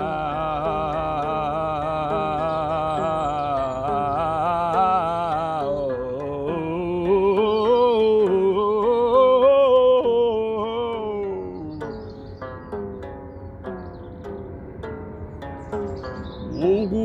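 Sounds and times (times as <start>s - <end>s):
person singing long wavering notes: 0.0s - 17.0s.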